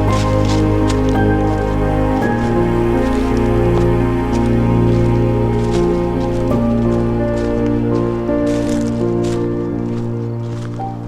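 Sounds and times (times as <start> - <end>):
music of held chords: 0.0 - 11.0.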